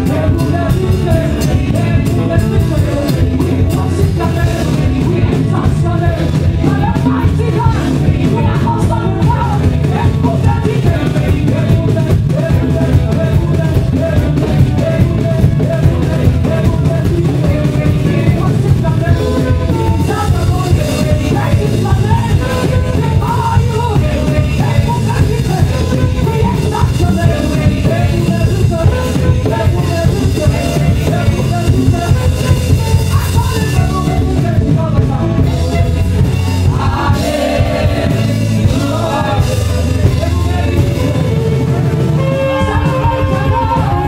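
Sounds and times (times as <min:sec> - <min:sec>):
drum kit beat: 0:00.0 - 0:44.0
heavy bass: 0:00.0 - 0:44.0
saxophone melody: 0:00.0 - 0:44.0.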